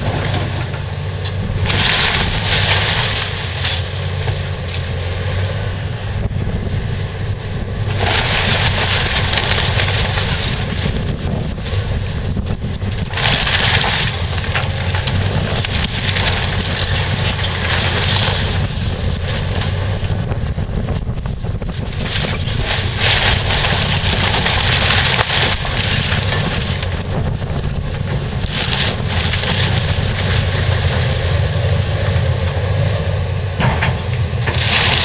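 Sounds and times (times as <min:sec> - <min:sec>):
timber and debris crashing: 0:00.0 - 0:05.0, 0:07.9 - 0:20.1, 0:21.6 - 0:32.6, 0:33.6 - 0:35.0
excavator diesel engine running: 0:00.0 - 0:35.0.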